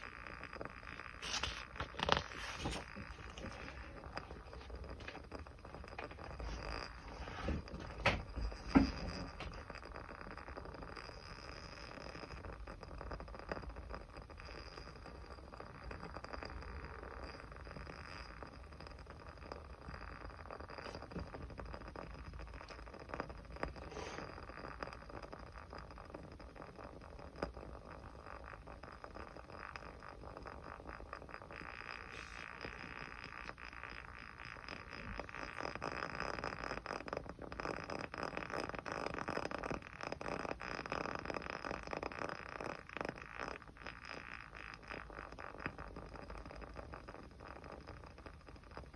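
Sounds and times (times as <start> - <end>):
small fire crackling: 0.0 - 48.9.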